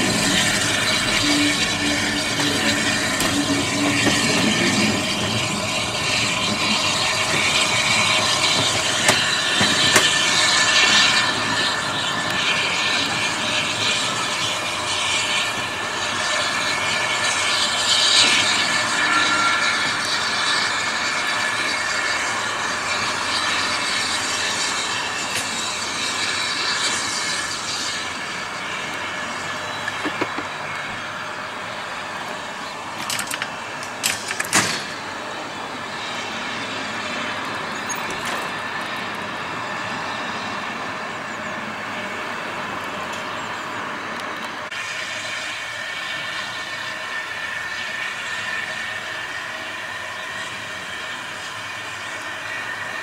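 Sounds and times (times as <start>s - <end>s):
steam train running: 0.0s - 53.0s.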